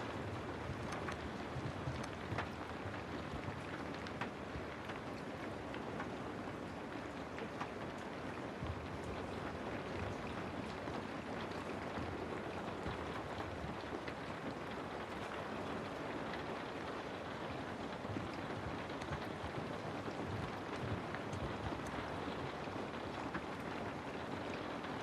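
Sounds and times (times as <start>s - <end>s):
rain falling on a house: 0.0s - 25.0s.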